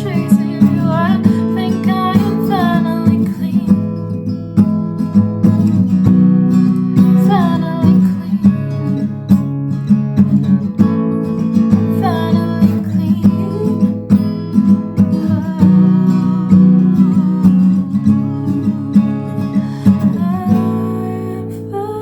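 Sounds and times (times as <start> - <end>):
acoustic guitar chords: 0.0 - 22.0.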